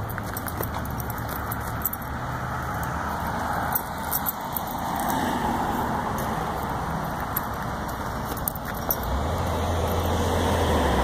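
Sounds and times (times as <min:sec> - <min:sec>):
metallic jingling clicks: 0:00.0 - 0:10.3.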